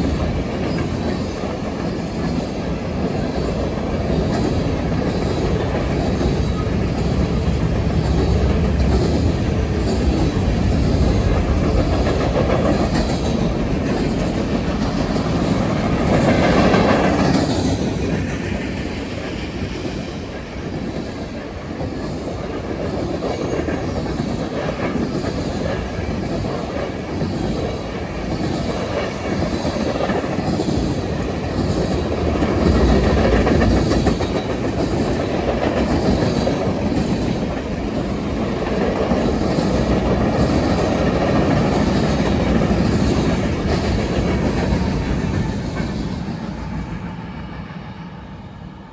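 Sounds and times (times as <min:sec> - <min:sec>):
freight train wheels clacking: 0:00.0 - 0:48.9.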